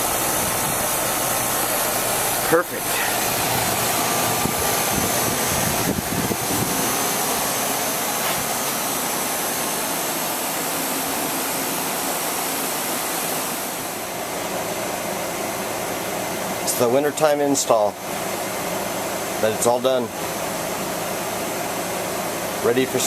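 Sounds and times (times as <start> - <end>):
air conditioner condenser running: 0.0 - 23.0.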